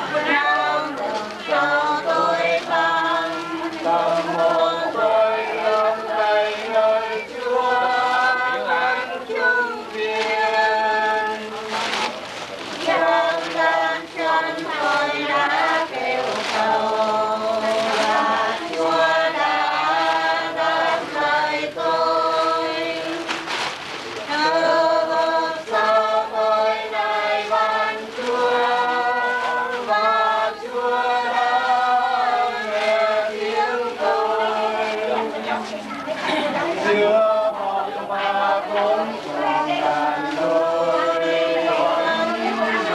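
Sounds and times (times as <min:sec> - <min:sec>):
group singing a prayer chant: 0:00.0 - 0:42.9.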